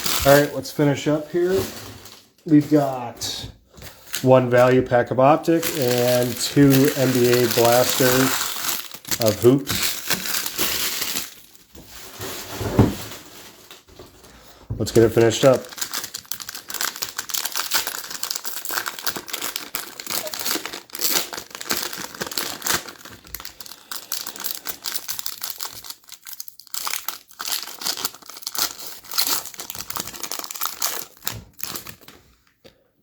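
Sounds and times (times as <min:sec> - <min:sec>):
plastic wrapper crinkling: 0:00.0 - 0:03.2, 0:03.9 - 0:14.1, 0:14.9 - 0:32.6.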